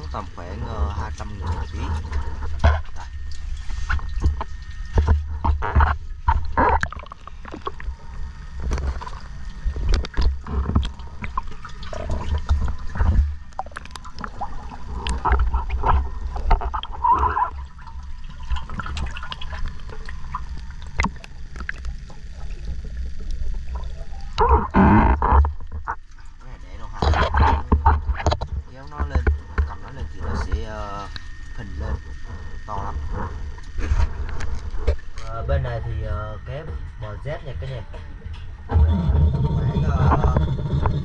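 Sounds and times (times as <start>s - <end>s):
low uneven rumble: 0.0s - 41.0s
underwater gurgling and bubbling: 0.0s - 41.0s.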